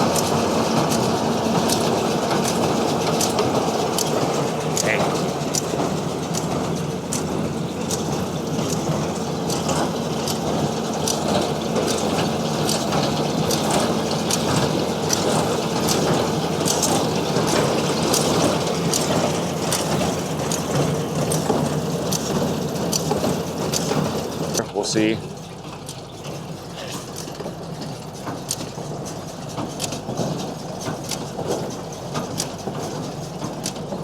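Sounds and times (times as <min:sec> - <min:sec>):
hay baler clacking: 0:00.0 - 0:34.0
tractor engine hum: 0:00.0 - 0:34.0.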